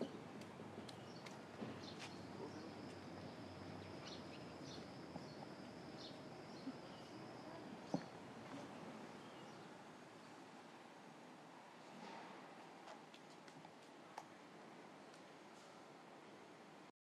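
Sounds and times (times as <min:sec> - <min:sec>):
low hiss: 0:00.0 - 0:16.9.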